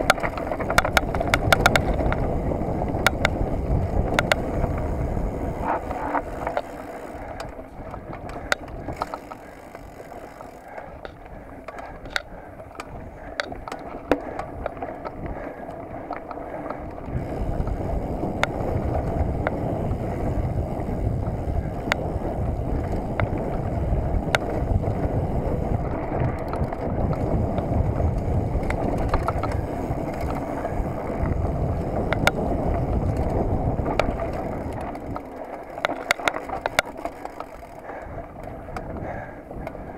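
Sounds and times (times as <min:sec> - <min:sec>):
bike clicks and rattles: 0:00.0 - 0:39.9
bike tyres rolling on dirt: 0:00.0 - 0:39.9.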